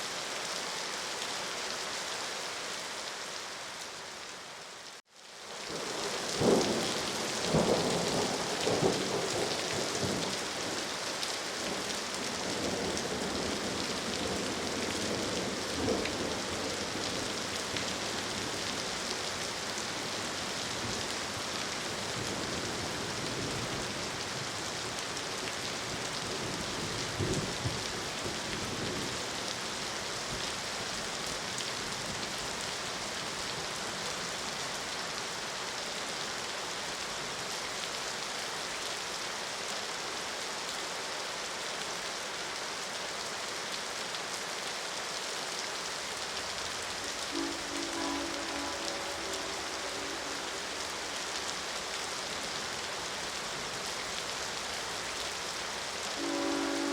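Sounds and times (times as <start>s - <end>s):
rain pouring: 0.0s - 56.9s.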